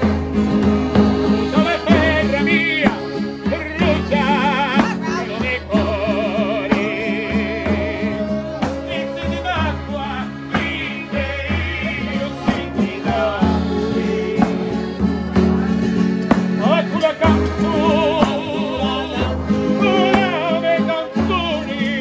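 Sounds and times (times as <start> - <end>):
frame drum with jingles: 0.0 - 20.6
people singing with vibrato: 0.0 - 22.0
strummed acoustic guitar: 0.0 - 22.0.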